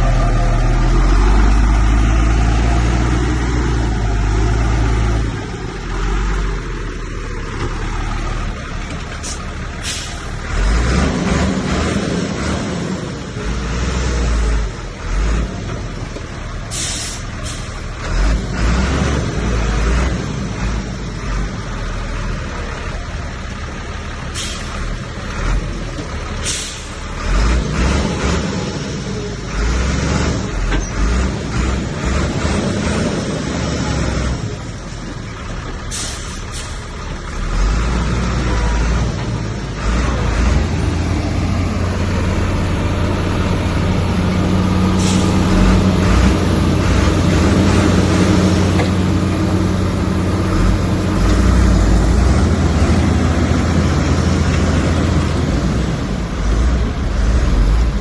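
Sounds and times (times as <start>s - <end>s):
heavy diesel engine rumble: 0.0s - 58.0s.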